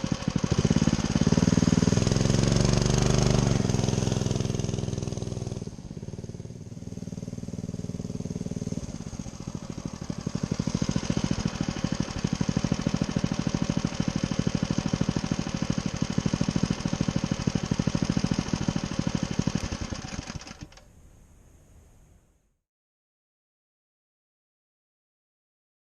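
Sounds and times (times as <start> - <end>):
mini bike engine running: 0.0 - 20.8.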